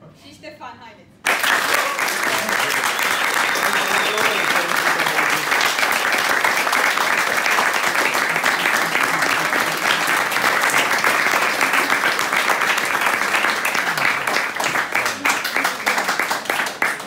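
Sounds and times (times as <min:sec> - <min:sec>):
people applauding: 0:01.2 - 0:17.0.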